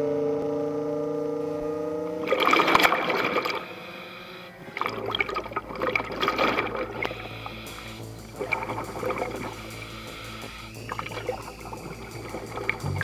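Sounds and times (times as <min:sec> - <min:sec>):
steady droning tone: 0:00.0 - 0:13.0
steady low hum: 0:00.0 - 0:13.0
underwater bubbling: 0:02.1 - 0:13.0.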